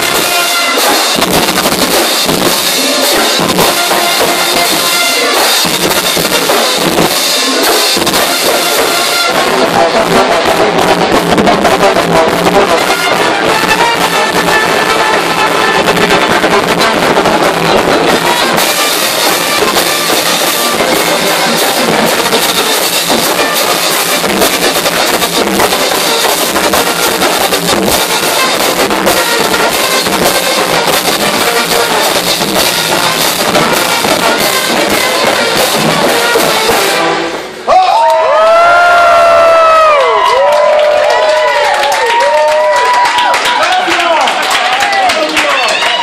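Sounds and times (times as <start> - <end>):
bass drums: 0.0 - 37.7
trumpets and trombone: 0.0 - 44.0
snare drums: 0.0 - 46.0.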